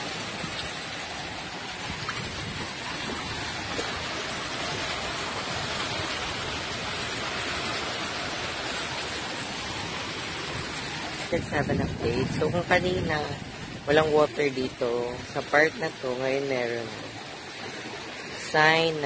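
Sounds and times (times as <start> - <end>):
shallow waves washing over sand: 0.0 - 19.0
wind: 0.0 - 19.0.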